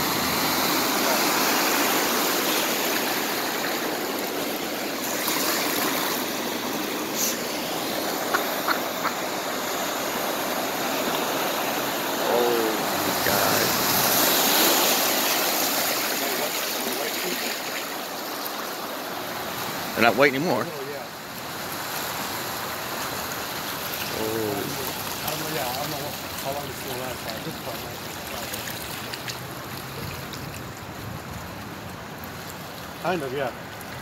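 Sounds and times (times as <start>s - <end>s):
floodwater rushing and splashing: 0.0s - 34.0s.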